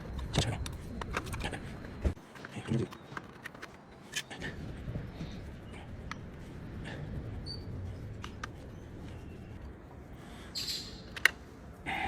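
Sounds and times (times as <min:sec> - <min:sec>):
steady low background noise: 0:00.0 - 0:12.0.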